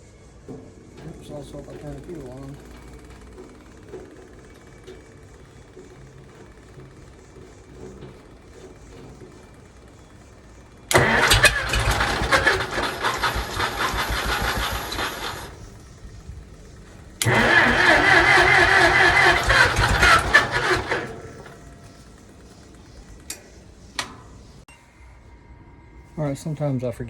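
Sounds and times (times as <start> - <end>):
tractor engine cranking on starter: 0.4 - 24.7.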